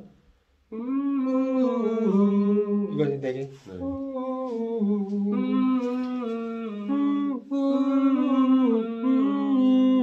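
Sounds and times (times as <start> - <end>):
person humming: 0.0 - 10.0.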